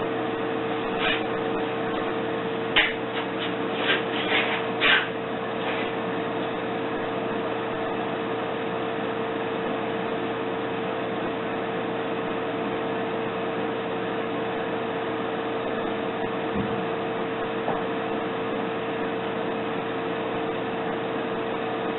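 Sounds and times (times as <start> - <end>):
constant humming tone: 0.0 - 12.8, 13.5 - 21.9.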